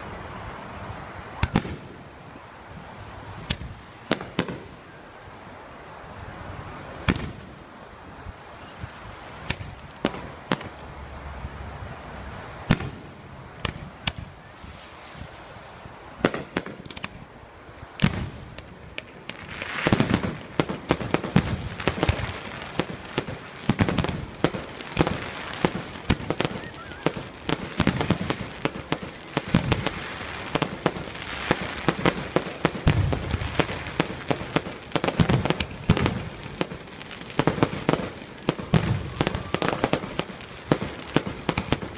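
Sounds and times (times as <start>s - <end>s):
fireworks bangs and crackle: 0.0s - 5.3s, 6.5s - 41.9s.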